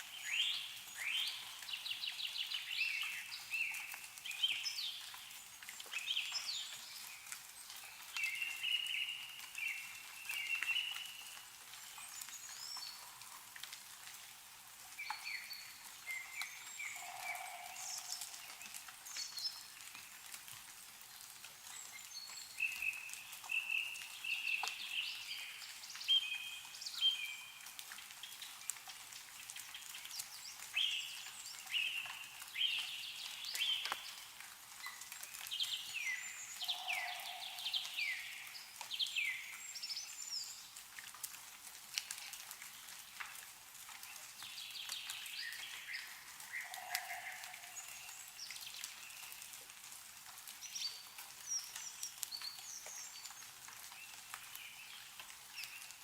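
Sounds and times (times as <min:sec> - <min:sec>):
songbirds chirping: 0:00.0 - 0:20.5, 0:21.4 - 0:41.0, 0:43.9 - 0:49.8, 0:50.6 - 0:56.0
meltwater dripping: 0:00.0 - 0:56.0.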